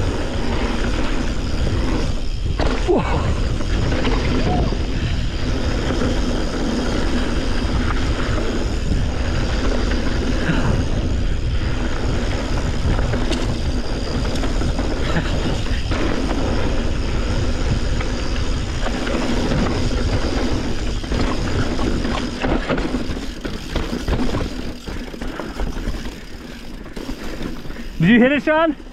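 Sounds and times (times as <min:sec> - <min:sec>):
wind on microphone: 0:00.0 - 0:26.1
bike tyres rattling over dirt: 0:00.0 - 0:28.9.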